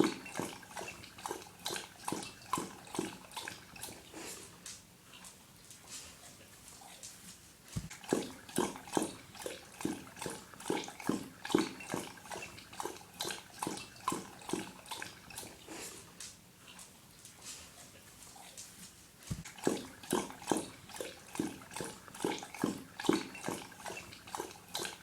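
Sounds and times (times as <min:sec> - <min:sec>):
dog lapping water: 0:00.0 - 0:04.6, 0:07.8 - 0:18.5, 0:19.2 - 0:25.0.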